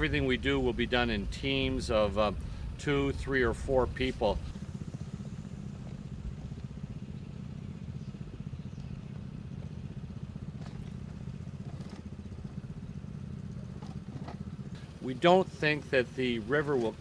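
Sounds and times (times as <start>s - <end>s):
water pump engine running: 0.0s - 17.0s.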